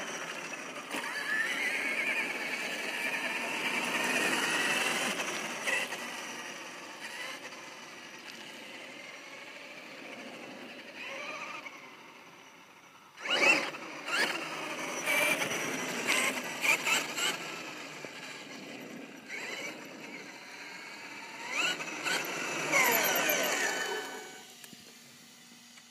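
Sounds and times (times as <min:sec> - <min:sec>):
electric toy truck motor whining: 0:00.0 - 0:25.9.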